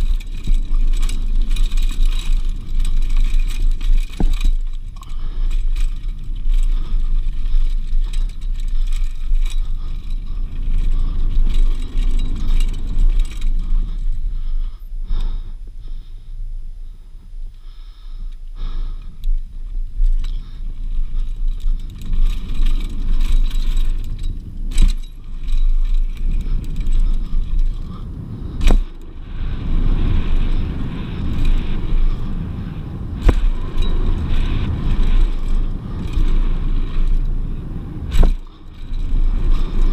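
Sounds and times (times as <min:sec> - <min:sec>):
bike knocking on bumps: 0:00.0 - 0:15.4, 0:20.0 - 0:39.9
wind buffeting microphone: 0:00.0 - 0:16.2, 0:18.6 - 0:39.9
bike rattling and scraping: 0:00.0 - 0:16.3, 0:17.4 - 0:39.9
bike tyres rolling on dirt: 0:00.0 - 0:39.9.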